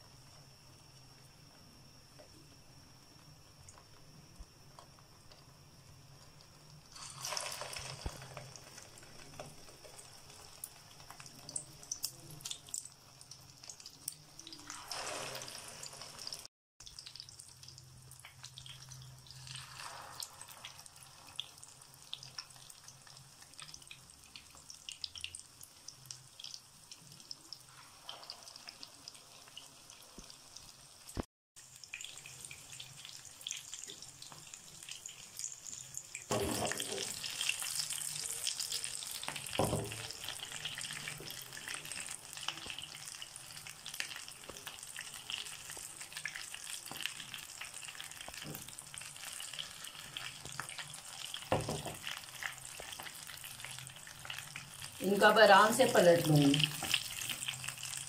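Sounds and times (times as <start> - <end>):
hissing sizzle: 0.0 - 58.0
oil crackling in a frying pan: 0.0 - 58.0.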